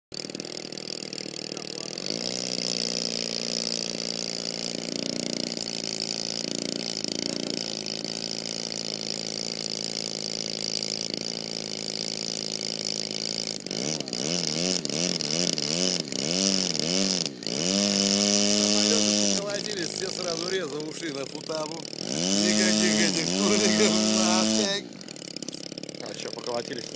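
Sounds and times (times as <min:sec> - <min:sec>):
model aeroplane engine revving: 0:00.1 - 0:26.9.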